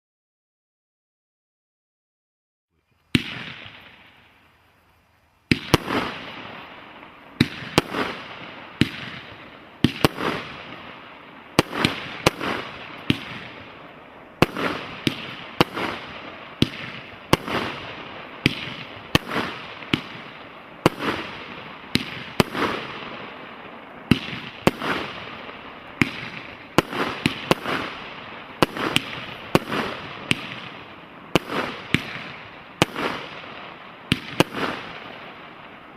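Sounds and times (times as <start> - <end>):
firework crackling: 2.9 - 35.9.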